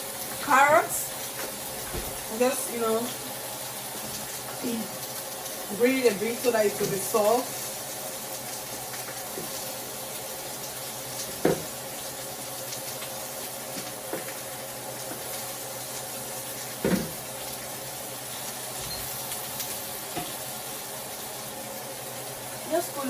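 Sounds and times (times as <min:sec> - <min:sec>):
chicken sizzling on grill pan: 0:00.0 - 0:23.0.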